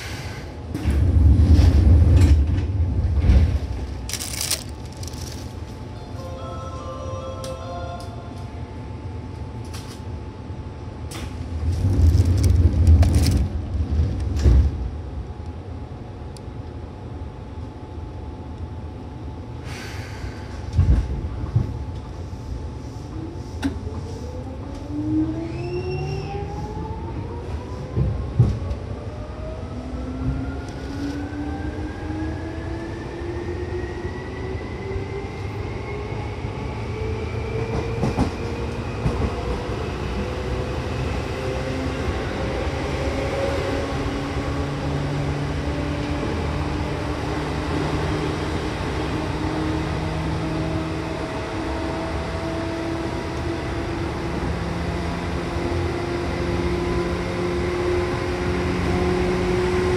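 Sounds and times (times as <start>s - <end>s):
train running rumble: 0.0s - 25.0s, 26.5s - 59.9s.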